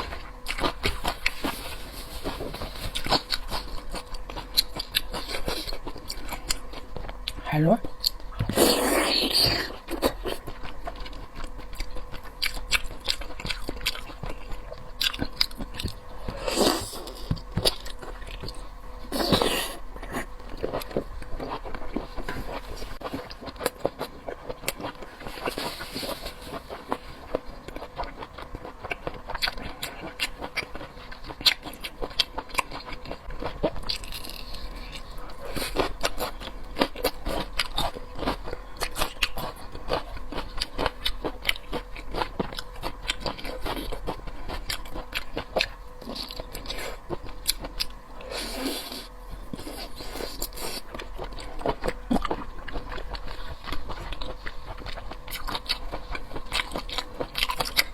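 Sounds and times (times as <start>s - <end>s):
wet chewing and biting: 0.0s - 57.9s.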